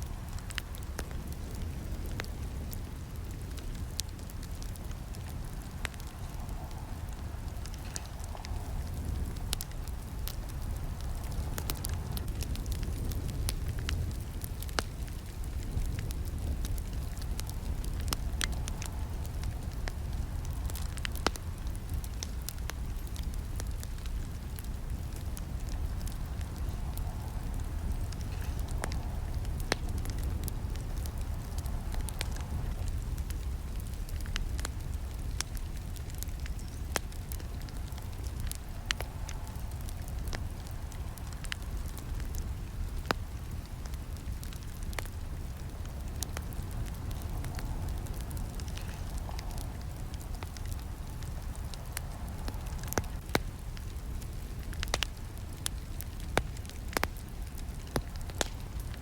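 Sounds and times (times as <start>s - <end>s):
campfire burning and crackling: 0.0s - 59.0s.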